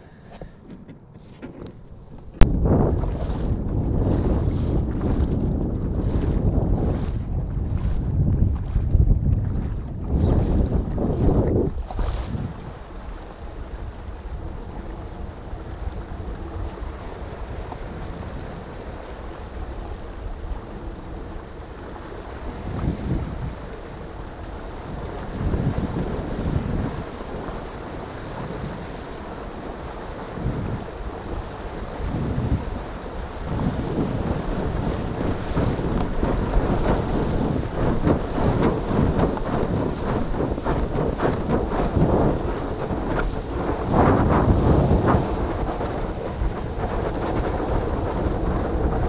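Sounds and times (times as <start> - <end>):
wind buffeting microphone: 0.0 - 49.0
water lapping against board: 0.1 - 49.0.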